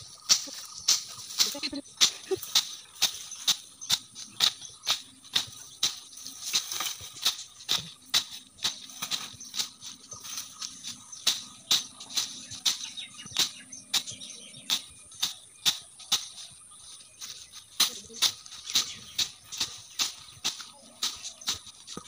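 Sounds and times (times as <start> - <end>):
blade swishing through weeds: 0.0 - 16.6, 17.2 - 22.0.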